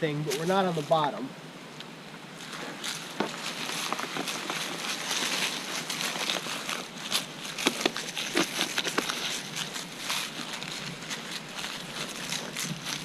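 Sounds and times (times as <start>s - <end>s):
steady hiss: 0.0s - 13.0s
footsteps crunching on dirt trail: 2.4s - 13.0s.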